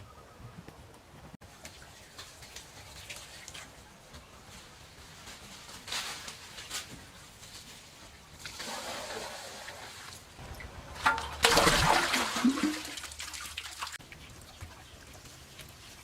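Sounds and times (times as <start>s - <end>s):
water pouring and splashing: 1.4s - 16.0s.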